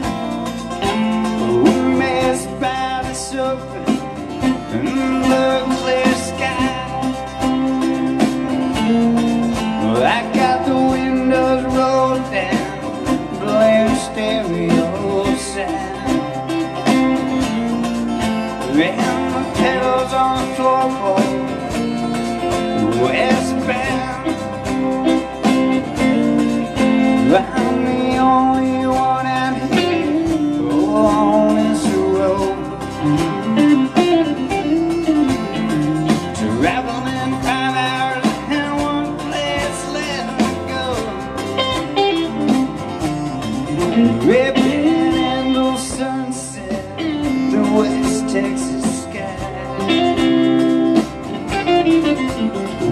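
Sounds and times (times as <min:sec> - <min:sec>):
acoustic guitar: 0:00.0 - 0:52.9
drum kit: 0:00.0 - 0:52.9
electric bass: 0:00.0 - 0:52.9
electric guitar: 0:00.0 - 0:52.9.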